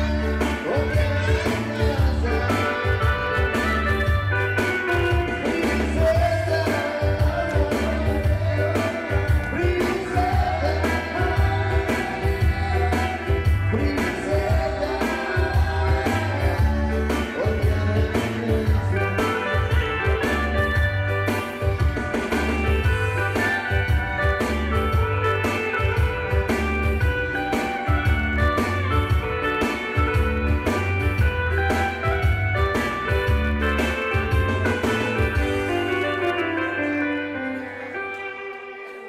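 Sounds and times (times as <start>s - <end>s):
band with bass and drums: 0.0s - 39.0s
person singing: 0.0s - 39.0s.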